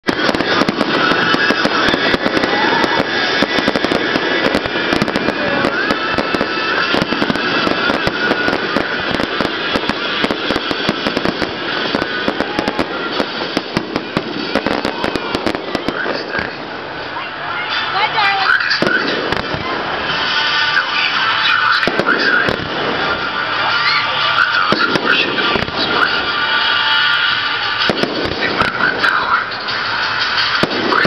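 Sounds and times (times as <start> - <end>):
fireworks popping and crackling: 0.0 - 31.0.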